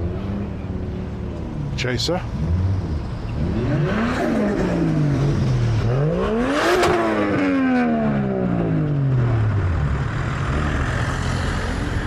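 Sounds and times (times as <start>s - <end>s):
car engine revving: 2.3s - 12.0s.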